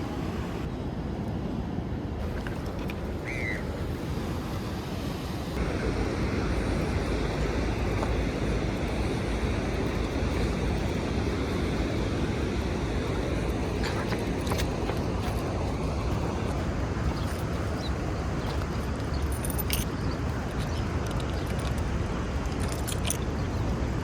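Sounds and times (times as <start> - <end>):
sea surf: 0.0 - 24.0
wind buffeting microphone: 0.0 - 24.0.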